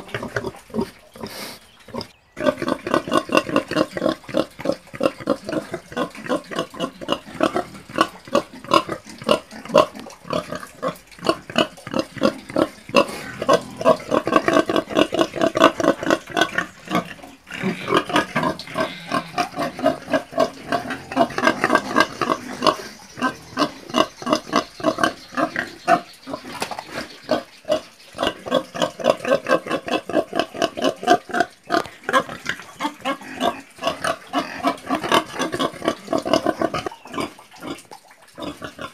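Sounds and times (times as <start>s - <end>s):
pigs grunting: 0.0s - 38.9s.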